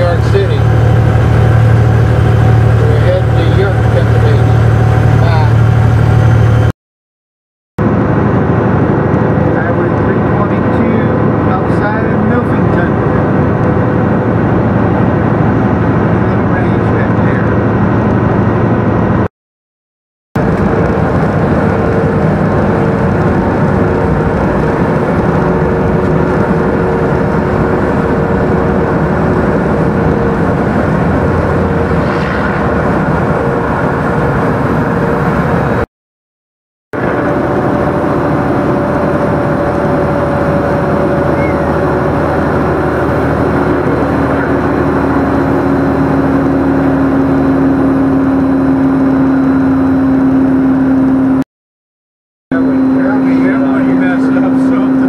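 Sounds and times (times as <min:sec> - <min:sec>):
road noise inside cab: 0:00.0 - 0:06.7, 0:07.8 - 0:19.3, 0:20.4 - 0:35.8, 0:37.0 - 0:51.4, 0:52.5 - 0:55.0
truck engine droning: 0:00.0 - 0:06.7, 0:07.8 - 0:19.3, 0:20.4 - 0:35.9, 0:37.0 - 0:51.4, 0:52.5 - 0:55.0.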